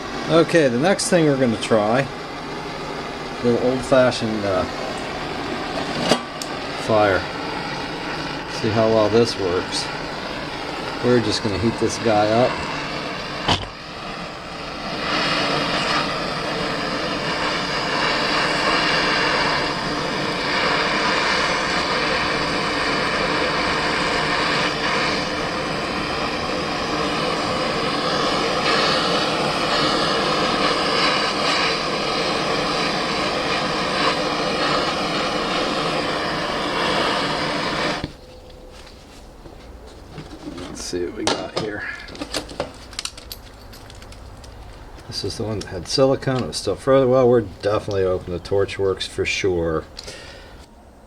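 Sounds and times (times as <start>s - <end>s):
torch flame hissing: 0.0s - 38.2s, 38.8s - 50.8s.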